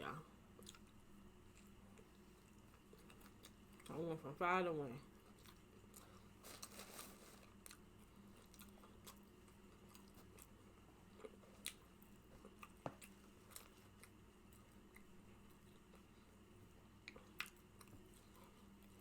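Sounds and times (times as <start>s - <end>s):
person chewing food: 0.5s - 3.9s, 5.1s - 19.0s.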